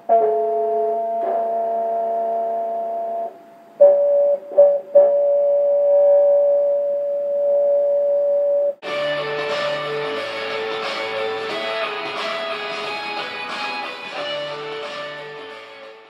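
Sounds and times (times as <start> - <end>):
electronic musical tones: 0.0 - 15.8.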